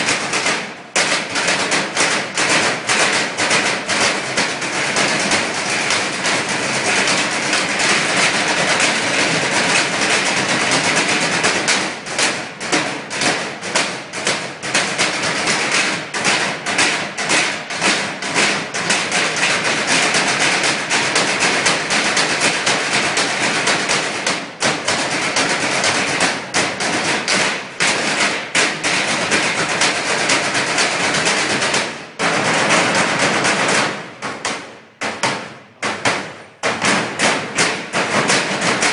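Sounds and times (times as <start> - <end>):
drumming on metal trash cans: 0.0 - 38.9.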